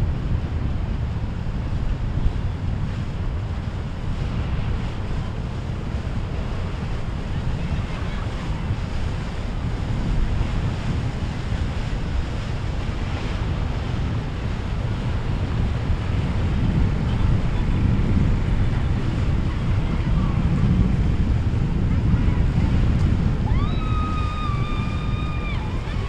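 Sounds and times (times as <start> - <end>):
waves and surf: 0.0 - 26.0
wind buffeting microphone: 0.0 - 26.0.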